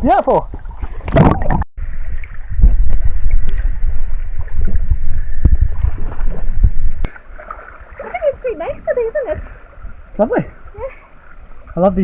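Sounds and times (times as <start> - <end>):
water sloshing and lapping: 0.0 - 12.0.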